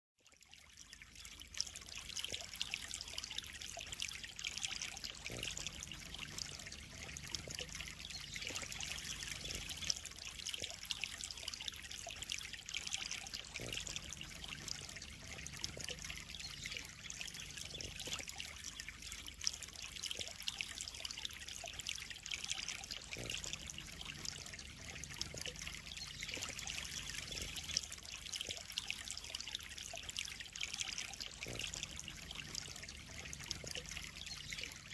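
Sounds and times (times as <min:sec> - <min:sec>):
water trickling into pond: 0:00.2 - 0:34.9.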